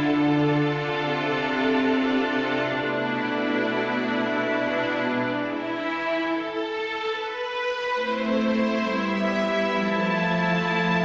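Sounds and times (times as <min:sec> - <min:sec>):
music of long held notes: 0:00.0 - 0:11.0.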